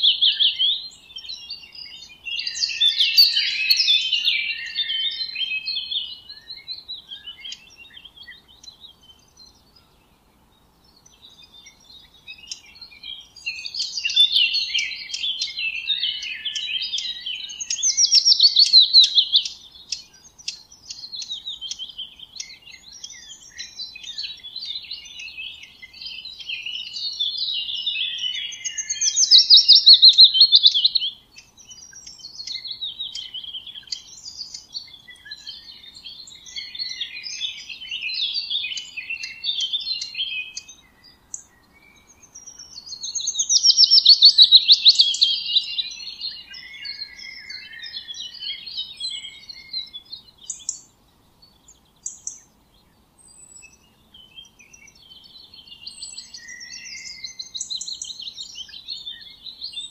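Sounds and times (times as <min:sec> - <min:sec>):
bird chirps and twitters: 0:00.0 - 0:10.0, 0:10.8 - 0:59.9
descending trilled birdsong: 0:00.0 - 0:59.9.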